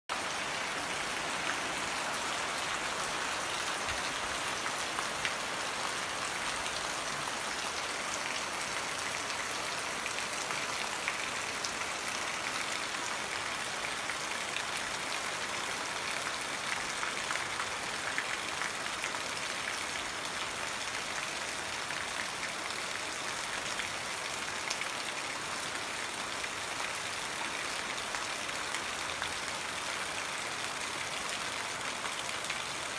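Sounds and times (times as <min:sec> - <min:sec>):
steady rain falling: 0:00.1 - 0:32.9.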